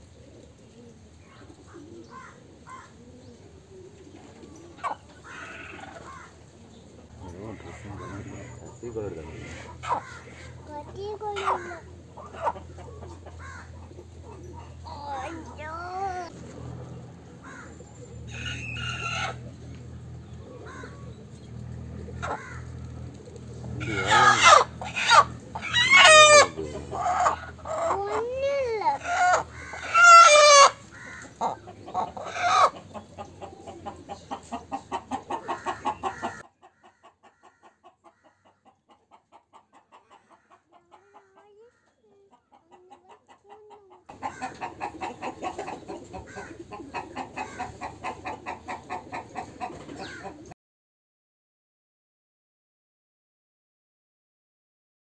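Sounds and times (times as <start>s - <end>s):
chickens clucking: 0.0s - 50.6s
chickens squawking: 0.1s - 50.6s.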